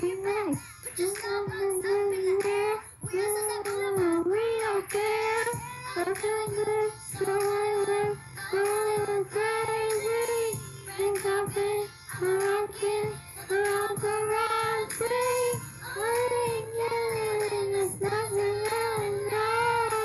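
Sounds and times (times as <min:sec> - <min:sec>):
girl singing into microphone: 0:00.0 - 0:20.0
recorded backing track: 0:00.0 - 0:20.0.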